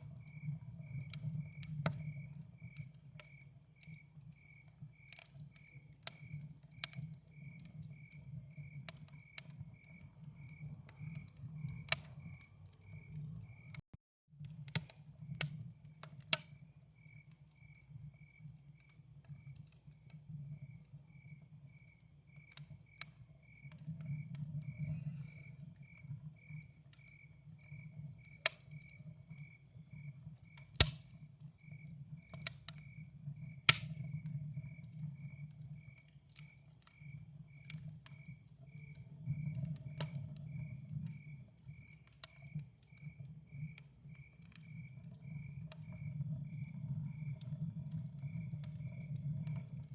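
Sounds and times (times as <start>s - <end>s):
campfire crackling and popping: 0.0s - 13.8s, 14.4s - 49.9s
cricket chirping: 0.0s - 13.8s, 16.4s - 49.9s.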